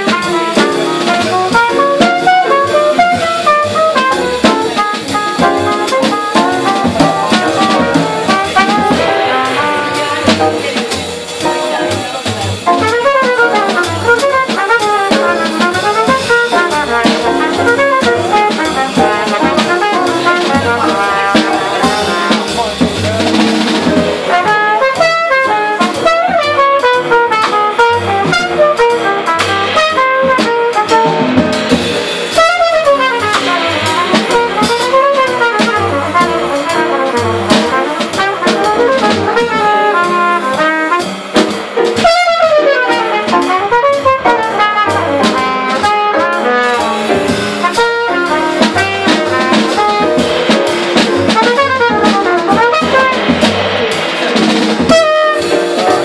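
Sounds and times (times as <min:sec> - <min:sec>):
cornet solo: 0:00.0 - 0:11.8, 0:12.7 - 0:31.5, 0:32.4 - 0:41.2, 0:41.8 - 0:56.0
drum kit: 0:00.0 - 0:56.0
upright bass: 0:00.0 - 0:56.0.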